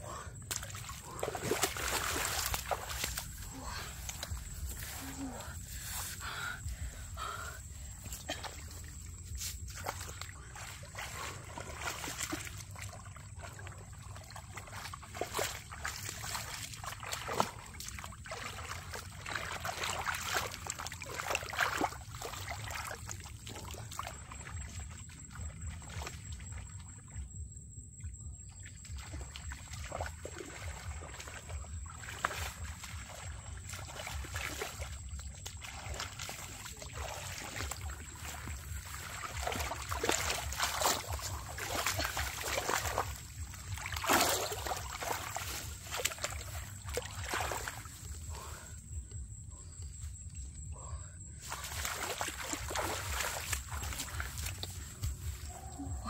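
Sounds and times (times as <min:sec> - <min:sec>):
muddy water sloshing and splashing: 0:00.0 - 0:56.0.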